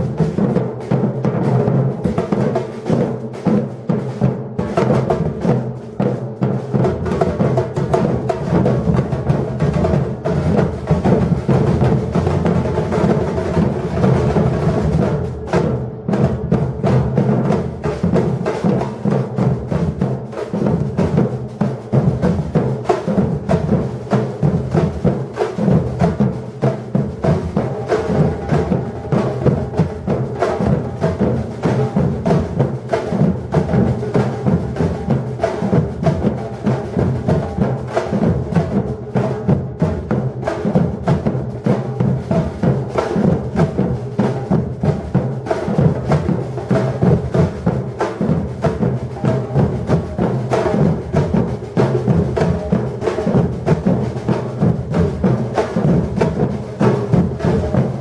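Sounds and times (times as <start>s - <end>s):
higher drum strokes: 0.0s - 58.0s.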